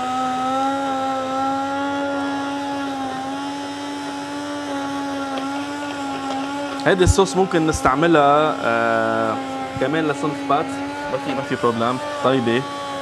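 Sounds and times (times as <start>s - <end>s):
electric hand blender running: 0.0s - 13.0s.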